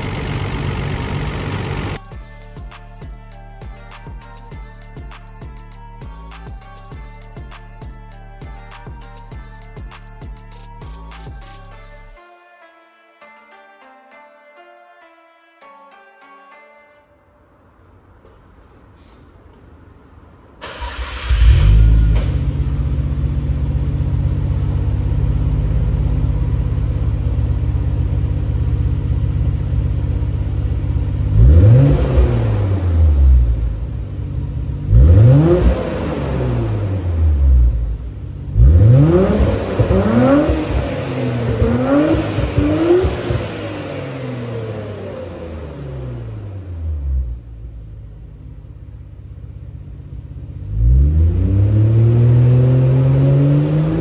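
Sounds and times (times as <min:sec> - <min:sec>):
car engine idling and revving: 0:00.0 - 0:12.1, 0:20.6 - 0:54.0.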